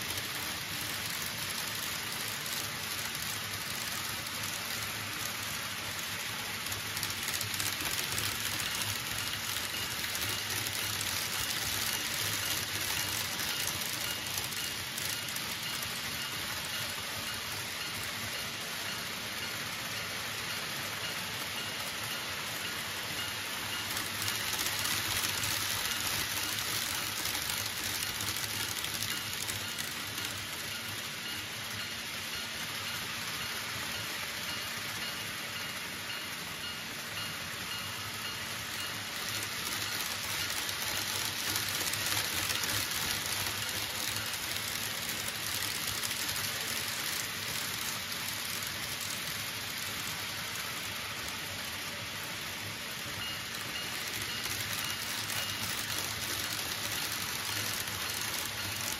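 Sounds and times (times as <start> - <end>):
model trains running on track: 0.0 - 58.9.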